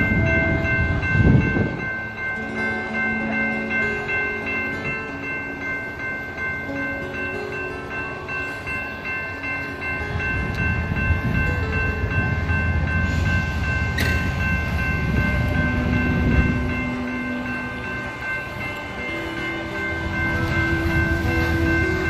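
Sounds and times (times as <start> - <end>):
crossing warning bells ringing: 0.0 - 22.0
steam locomotive rumble: 0.0 - 22.0.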